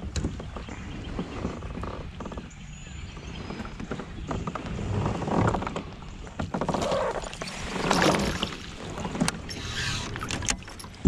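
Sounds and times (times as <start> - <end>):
water splashing against kayak: 0.0 - 11.0.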